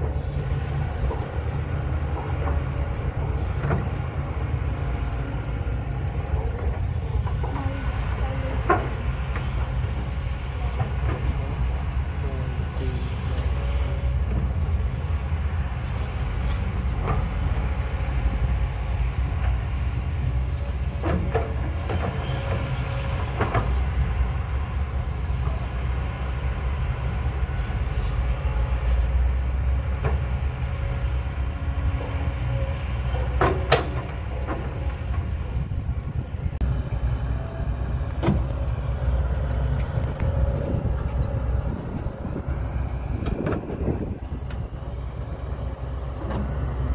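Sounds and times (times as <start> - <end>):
excavator diesel engine droning: 0.0 - 46.9.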